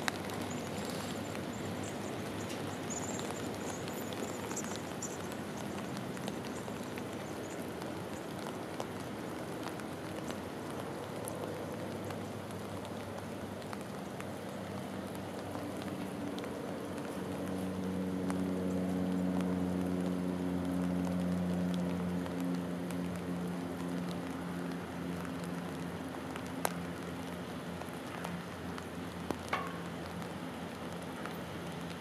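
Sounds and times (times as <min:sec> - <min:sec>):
rain falling on water: 0:00.0 - 0:32.0.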